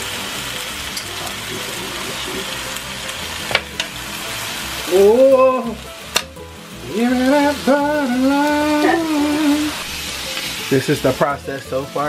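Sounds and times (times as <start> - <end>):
chicken sizzling on a griddle: 0.0 - 12.0.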